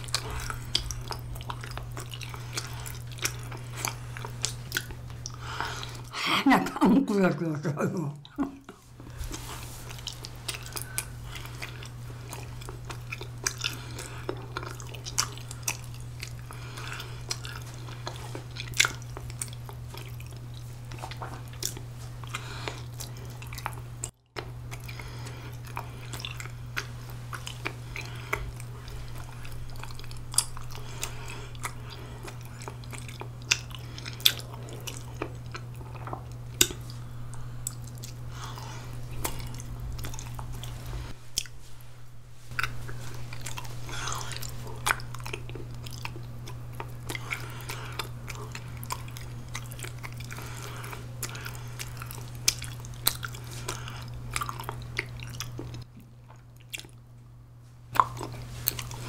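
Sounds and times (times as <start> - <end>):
close-up chewing with mouth clicks: 0.0 - 6.2, 8.2 - 41.6, 42.5 - 57.1, 57.9 - 59.0
steady low hum: 0.0 - 59.0.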